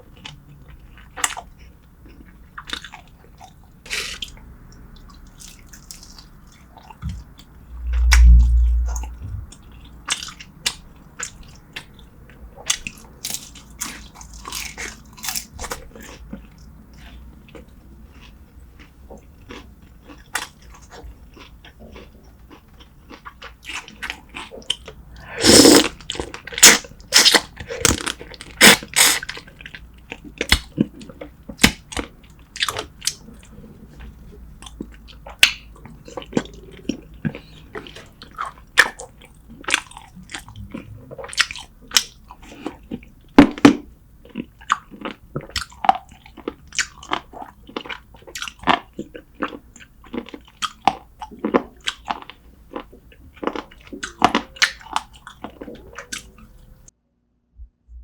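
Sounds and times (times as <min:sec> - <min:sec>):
chewing and smacking: 0:00.0 - 0:56.9.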